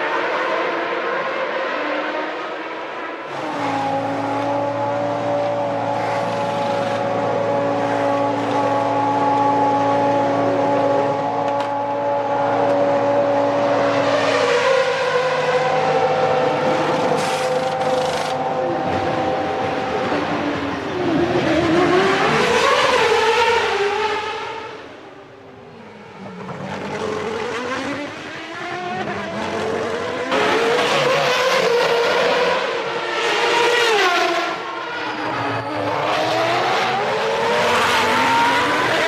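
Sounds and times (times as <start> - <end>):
racing car engines at high revs: 0.0 - 39.0.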